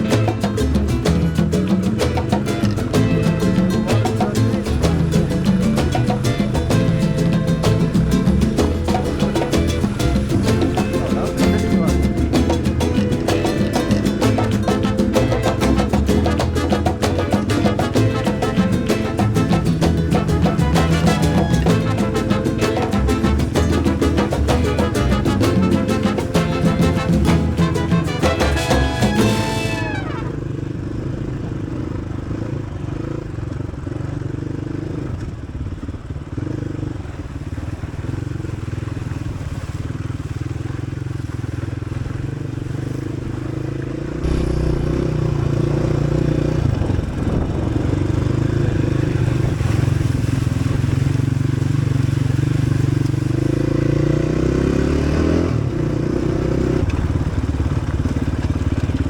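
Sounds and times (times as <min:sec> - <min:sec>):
dirt bike engine revving: 0:00.0 - 0:33.2, 0:43.5 - 0:59.0.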